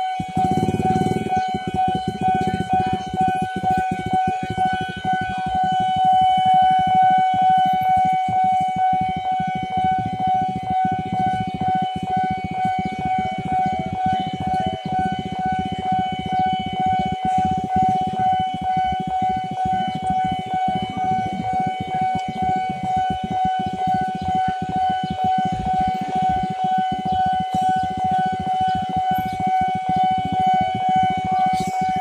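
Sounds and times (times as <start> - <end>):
level-crossing warning alarm: 0.0 - 32.0.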